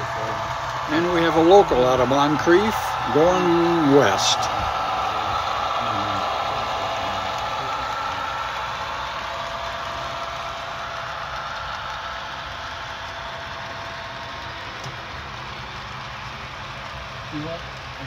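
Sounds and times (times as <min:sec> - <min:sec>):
model train wheels rumbling on track: 0:00.0 - 0:18.0.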